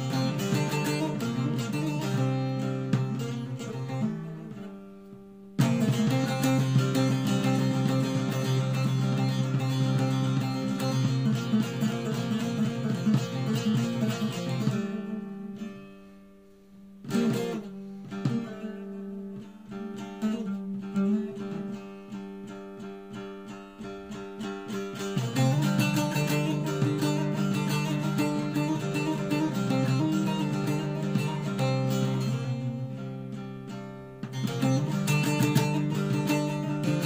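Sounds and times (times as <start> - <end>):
guitar music: 0.0 - 37.0.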